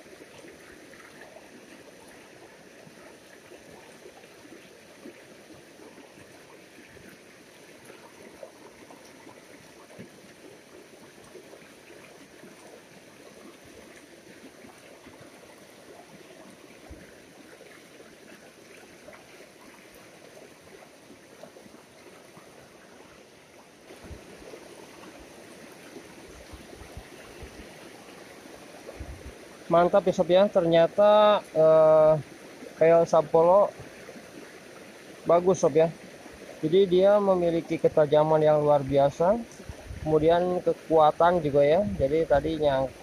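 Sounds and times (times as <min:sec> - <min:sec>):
stream babbling over stones: 0:00.0 - 0:43.0.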